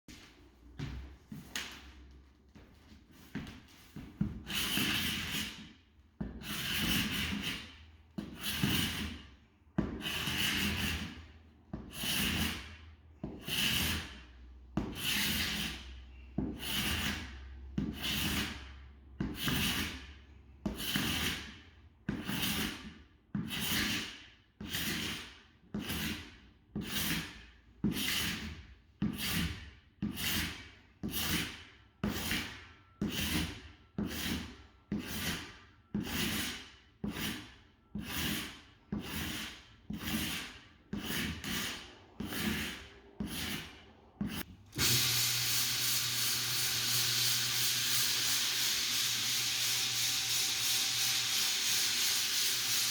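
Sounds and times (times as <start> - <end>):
abrasive tool rasping on wood floor: 3.1 - 52.9.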